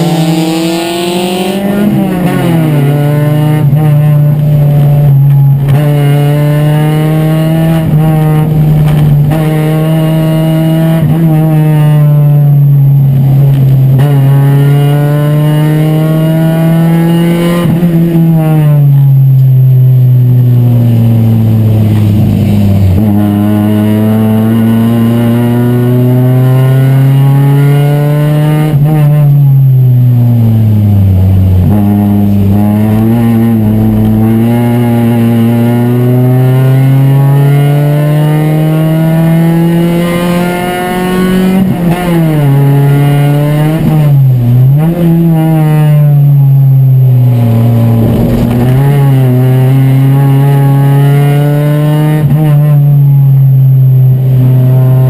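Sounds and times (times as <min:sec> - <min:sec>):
race car engine accelerating: 0:00.0 - 0:19.2, 0:20.0 - 0:29.5, 0:30.2 - 0:55.0.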